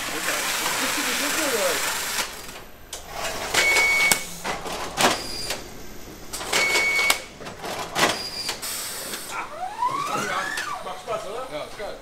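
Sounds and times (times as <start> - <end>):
machine whine with clatter: 0.0 - 12.0.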